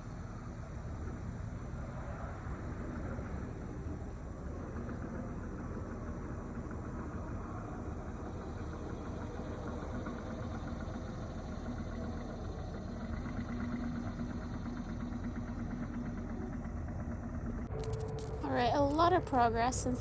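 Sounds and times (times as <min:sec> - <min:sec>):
engine running: 0:03.1 - 0:20.0.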